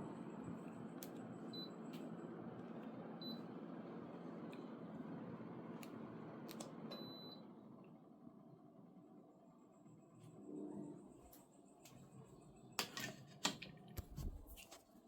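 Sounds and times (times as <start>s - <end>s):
air conditioner fan running: 0.0s - 15.0s.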